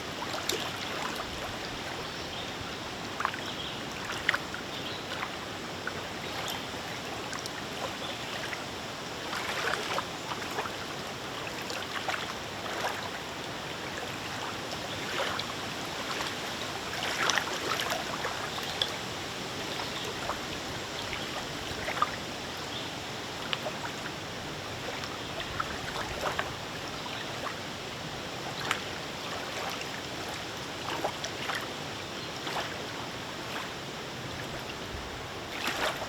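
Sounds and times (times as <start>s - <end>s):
small waves lapping on a lake: 0.0s - 36.0s.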